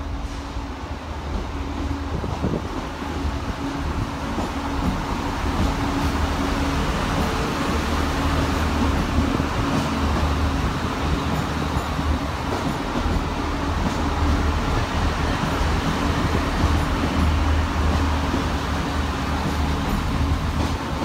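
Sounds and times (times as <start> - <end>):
diesel train engine rumble: 0.0 - 21.0.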